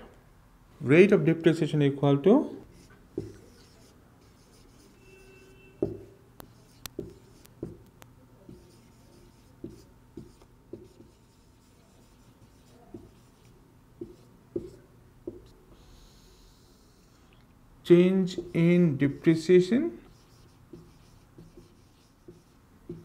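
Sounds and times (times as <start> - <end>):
marker writing on whiteboard: 2.6 - 17.3, 18.0 - 23.0.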